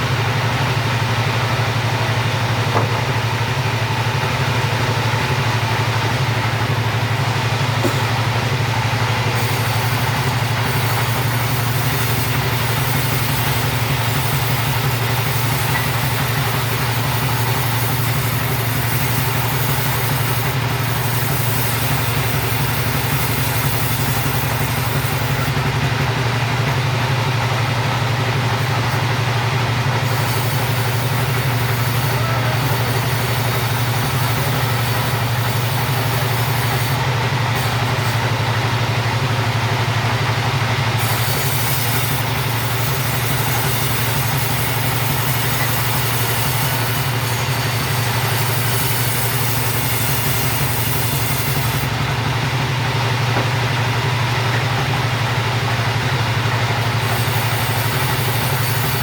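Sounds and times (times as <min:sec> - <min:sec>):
chainsaw cutting timber: 0:05.9 - 0:59.0.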